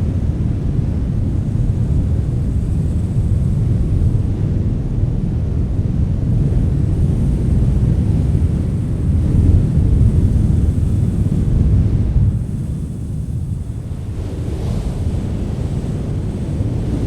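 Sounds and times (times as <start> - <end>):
wind blowing low rumble: 0.0 - 17.0.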